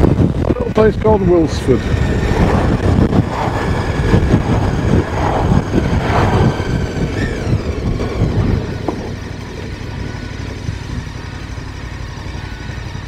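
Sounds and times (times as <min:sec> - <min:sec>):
wind buffeting microphone: 0:00.0 - 0:11.9
motorcycle road and engine noise: 0:00.0 - 0:13.0.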